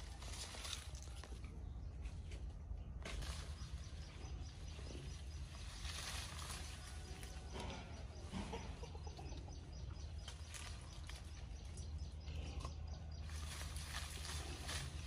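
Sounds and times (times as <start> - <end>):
birds chirping faintly: 0.0 - 15.0
steady low hum: 0.0 - 15.0.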